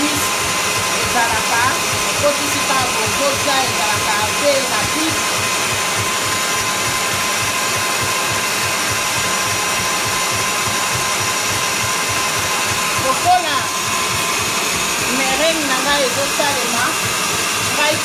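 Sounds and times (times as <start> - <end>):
stand mixer whisking: 0.0 - 18.0.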